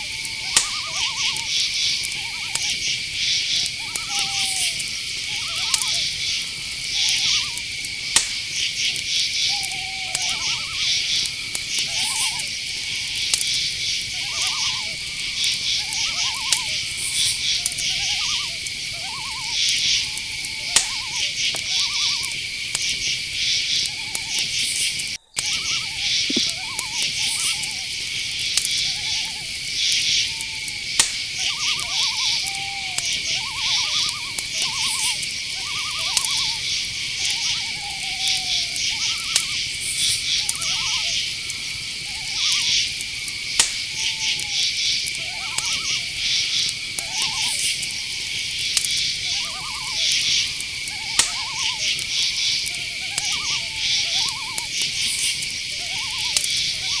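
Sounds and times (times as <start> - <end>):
crickets trilling: 0.0 - 57.0
night animal calls: 0.0 - 57.0
pulsed insect chirping: 0.0 - 57.0.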